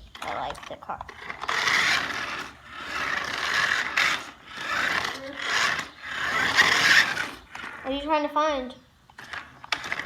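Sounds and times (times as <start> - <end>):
toy car motor whirring and rattling: 0.0 - 8.2, 9.1 - 10.0.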